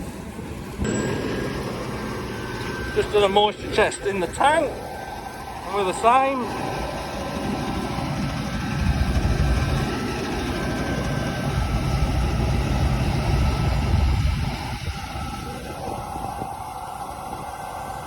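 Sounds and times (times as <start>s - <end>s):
combine harvester engine rumble: 0.0s - 18.0s.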